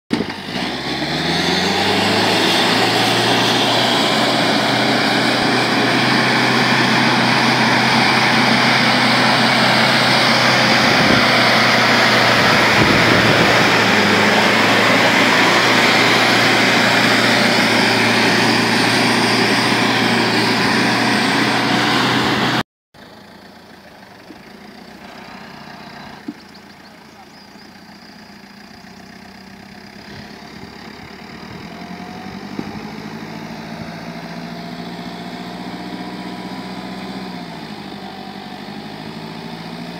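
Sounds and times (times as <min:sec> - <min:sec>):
jeep engine revving: 0:00.1 - 0:39.9.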